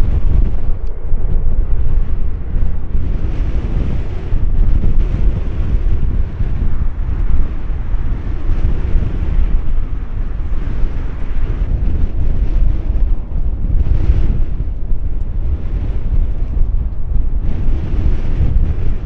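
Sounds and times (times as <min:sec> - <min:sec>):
jet engines rumbling: 0:00.0 - 0:19.0
wind buffeting microphone: 0:00.0 - 0:19.0.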